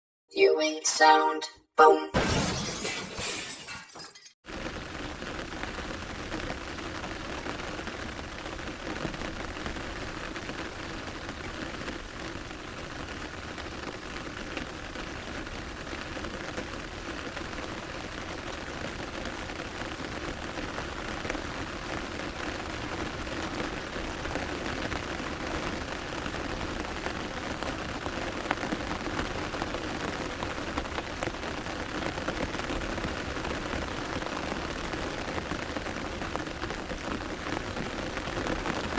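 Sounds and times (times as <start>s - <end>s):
rain on an umbrella: 4.4s - 38.9s.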